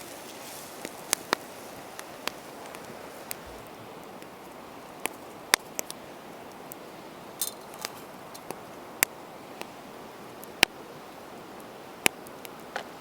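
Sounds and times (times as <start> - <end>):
campfire crackling and popping: 0.0 - 13.0
soft steady hiss: 0.0 - 13.0.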